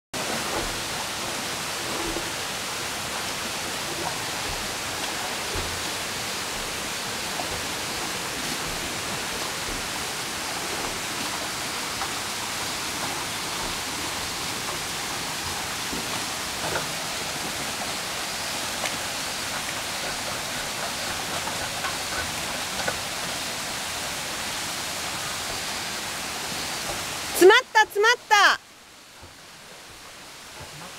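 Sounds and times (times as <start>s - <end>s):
rushing water: 0.2s - 30.9s.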